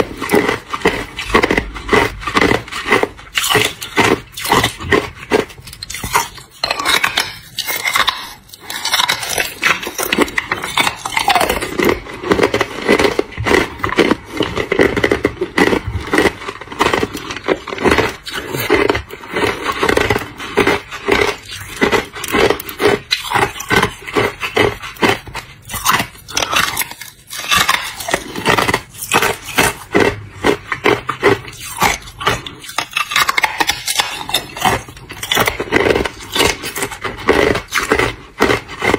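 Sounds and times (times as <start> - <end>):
person crunching ice: 0.0 - 38.9.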